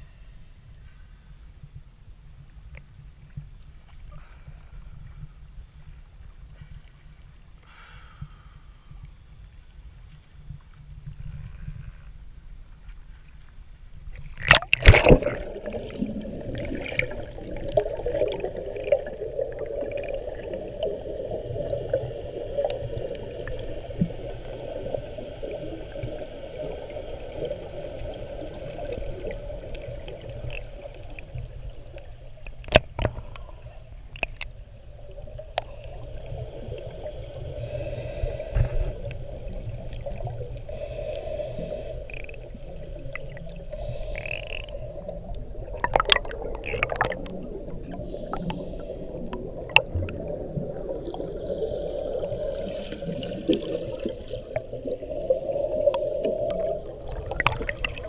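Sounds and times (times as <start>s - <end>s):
muffled underwater rumble: 0.0s - 58.0s.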